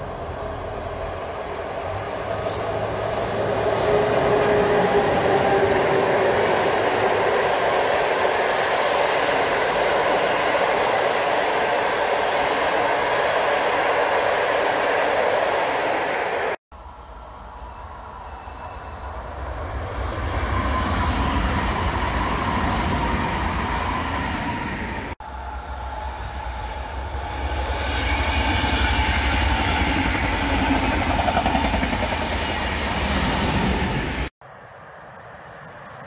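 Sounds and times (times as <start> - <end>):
electric train passing: 0.0 - 34.3.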